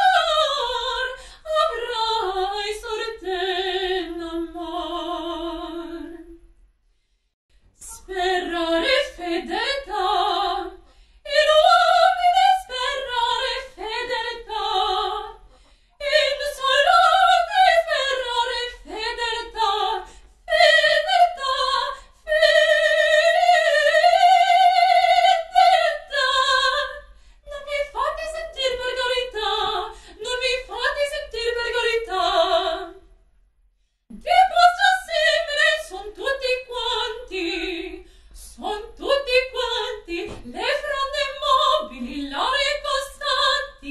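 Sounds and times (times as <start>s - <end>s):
woman singing operatically: 0.0s - 6.3s, 7.8s - 15.4s, 16.0s - 33.0s, 34.2s - 43.9s.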